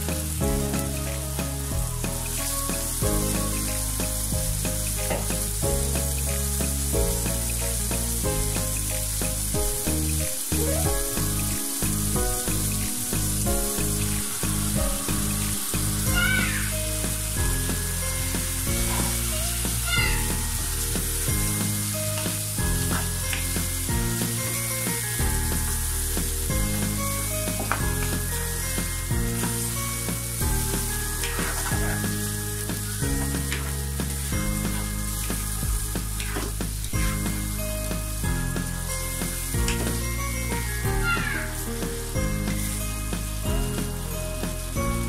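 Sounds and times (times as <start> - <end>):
background music: 0.0 - 45.0
meat sizzling in oil: 0.0 - 45.0.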